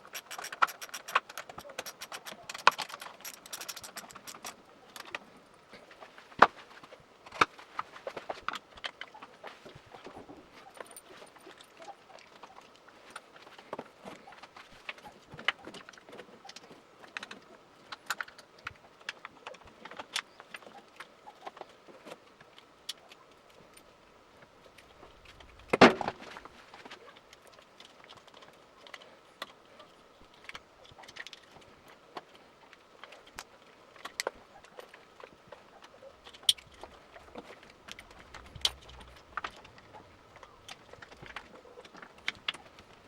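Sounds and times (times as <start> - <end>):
faint high hum: 0.0 - 43.0.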